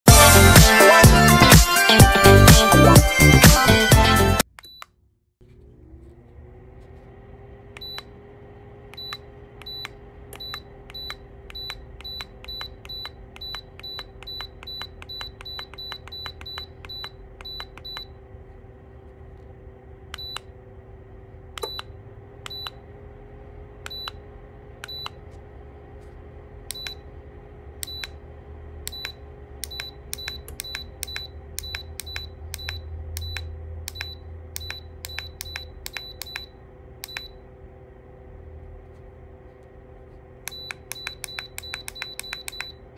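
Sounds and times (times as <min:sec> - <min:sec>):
heater fan humming: 0:00.1 - 0:42.9
heater beeping: 0:04.4 - 0:42.9.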